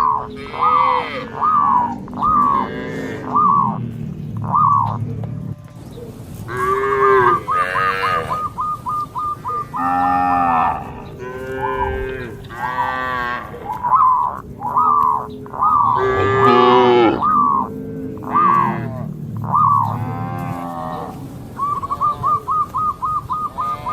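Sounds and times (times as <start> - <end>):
cattle mooing: 0.0 - 5.7, 6.4 - 8.5, 9.5 - 22.5, 23.5 - 23.9.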